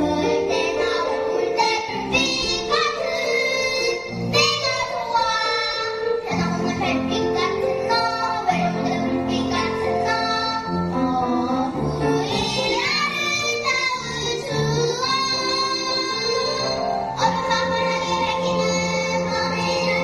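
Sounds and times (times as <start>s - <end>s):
child singing: 0.0s - 20.0s.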